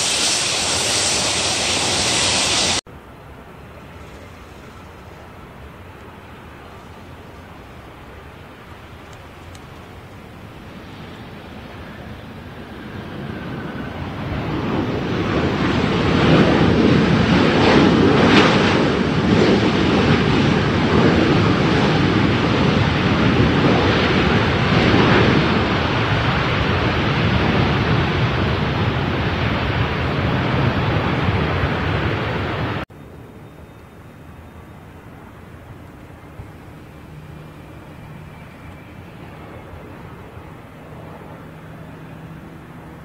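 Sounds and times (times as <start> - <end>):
jet engine roar: 0.0 - 43.0.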